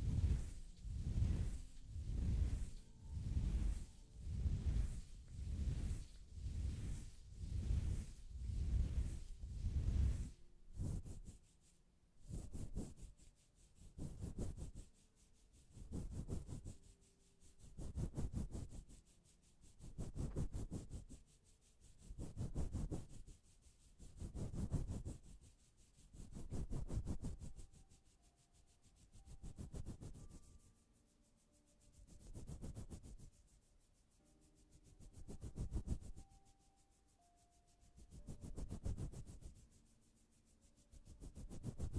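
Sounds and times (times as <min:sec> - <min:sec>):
rasping rubbing strokes: 0:00.0 - 0:16.8, 0:17.4 - 0:30.7, 0:31.3 - 0:41.9.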